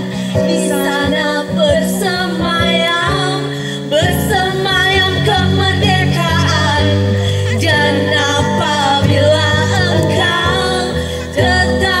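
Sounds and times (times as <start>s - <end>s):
acoustic guitar: 0.0s - 12.0s
woman singing: 0.0s - 12.0s.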